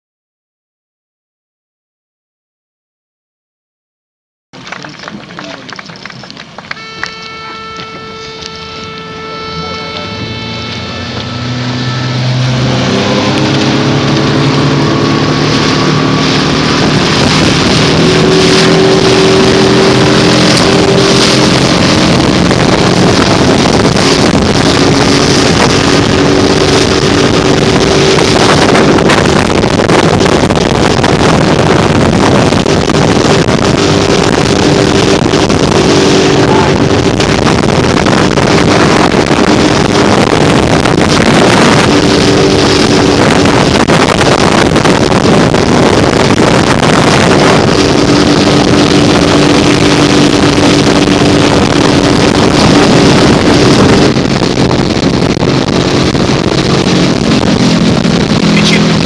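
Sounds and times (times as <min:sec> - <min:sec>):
motorboat engine running: 0:04.6 - 0:59.0
rushing water: 0:04.6 - 0:59.0
wind buffeting microphone: 0:04.6 - 0:59.0.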